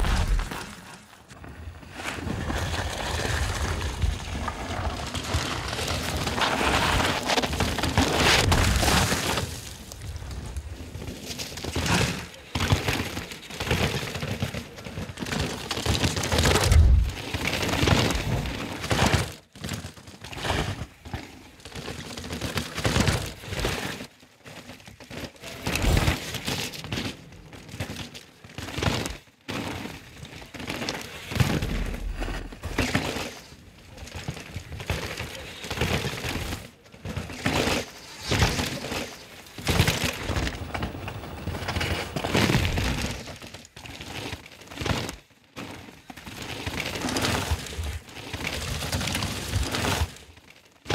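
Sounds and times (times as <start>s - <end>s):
bike tyres crunching on dirt: 0.0s - 50.9s.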